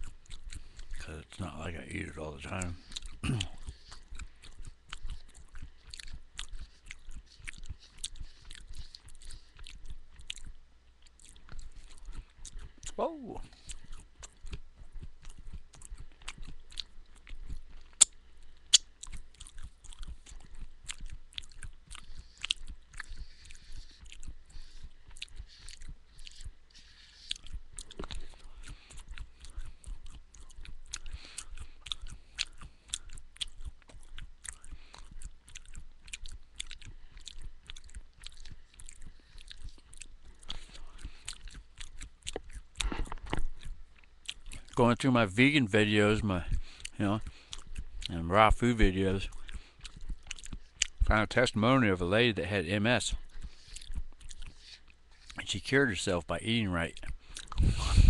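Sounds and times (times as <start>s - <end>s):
chewing crunchy granola: 0.0s - 58.0s.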